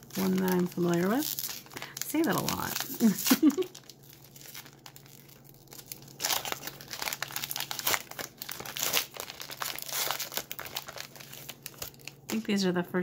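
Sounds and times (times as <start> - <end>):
plastic foil wrapper crinkling: 0.0 - 12.6.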